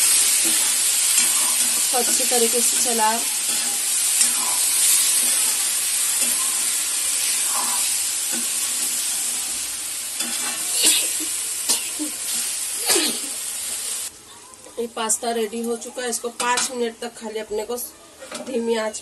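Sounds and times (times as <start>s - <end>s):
pasta sizzling in a pan: 0.0s - 17.0s.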